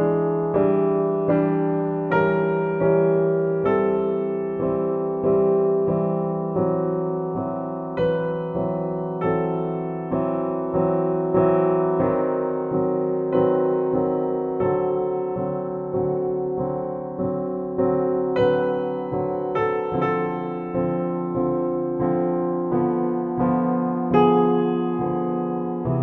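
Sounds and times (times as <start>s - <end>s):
soft piano chords: 0.0s - 26.0s.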